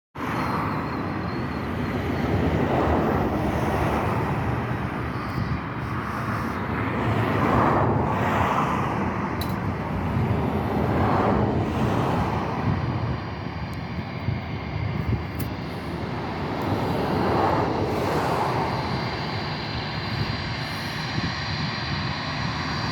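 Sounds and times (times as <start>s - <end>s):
jet engines whining: 0.2s - 22.9s
wind buffeting microphone: 0.2s - 22.9s.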